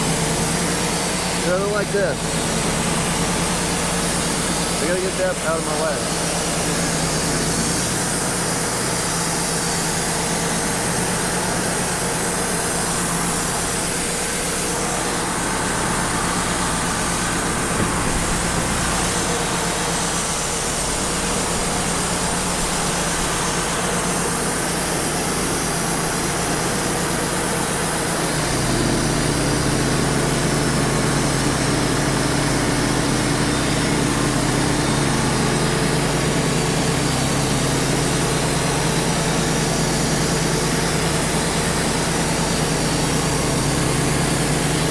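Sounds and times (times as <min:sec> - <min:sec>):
band saw and blower rush: 0:00.0 - 0:44.9
sawmill engine running: 0:00.0 - 0:44.9.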